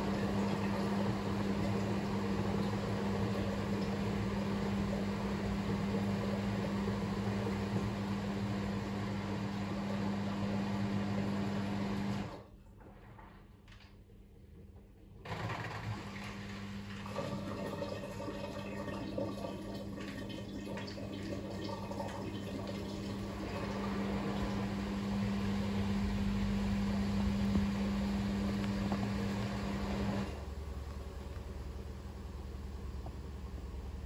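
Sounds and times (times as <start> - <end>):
washing machine hum: 0.0 - 34.0.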